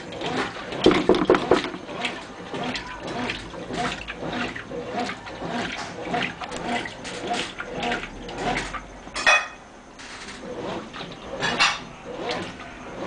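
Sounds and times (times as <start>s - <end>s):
washing machine agitator swishing: 0.0s - 13.0s.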